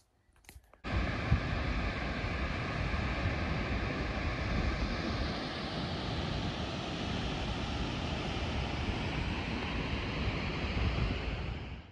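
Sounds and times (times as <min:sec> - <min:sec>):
wind buffeting microphone: 0:00.9 - 0:11.9.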